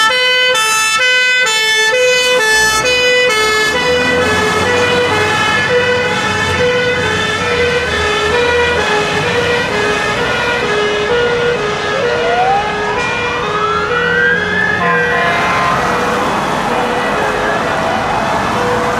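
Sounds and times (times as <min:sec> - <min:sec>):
two-tone siren: 0:00.0 - 0:18.9
wailing siren rising: 0:00.0 - 0:18.9.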